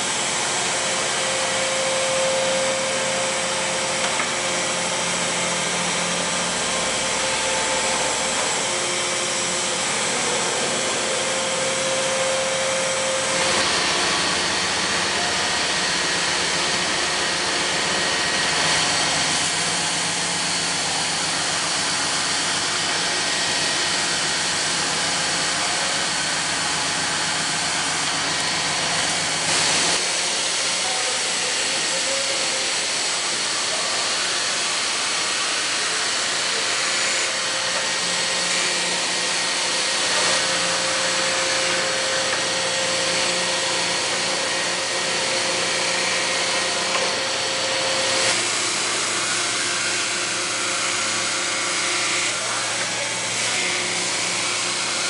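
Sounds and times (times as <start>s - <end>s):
machine hum: 0.0s - 32.2s, 33.4s - 55.0s
grinding wheel hissing on steel: 0.0s - 55.0s.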